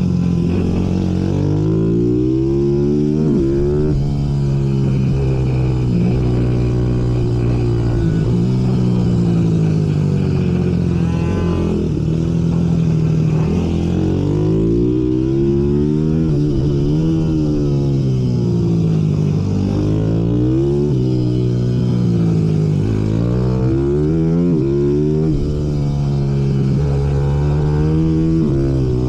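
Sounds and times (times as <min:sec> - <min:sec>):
minibike engines revving: 0:00.0 - 0:29.0.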